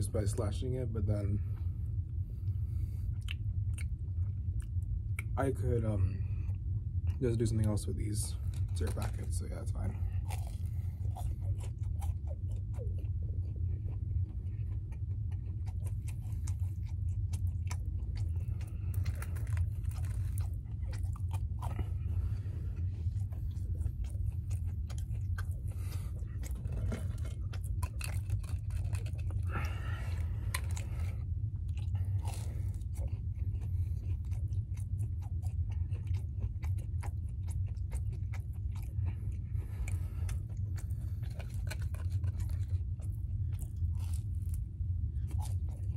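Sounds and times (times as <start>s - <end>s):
low hum: 0.0s - 45.9s
person chewing and crunching: 0.0s - 45.9s.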